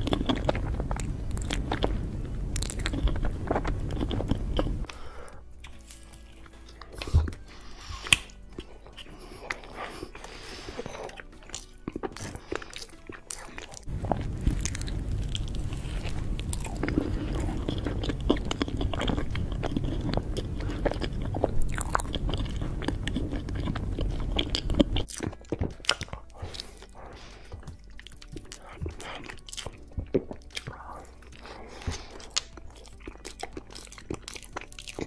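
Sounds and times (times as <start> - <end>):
low rumble: 0.0 - 12.8, 13.5 - 34.2
wet chewing with mouth clicks: 0.0 - 35.0.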